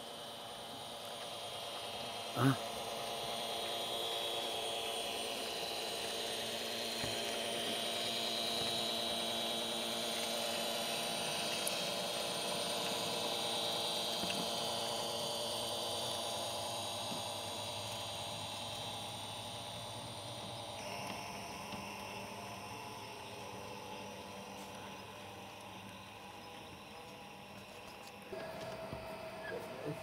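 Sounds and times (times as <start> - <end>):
model train motor whine: 0.0 - 30.0.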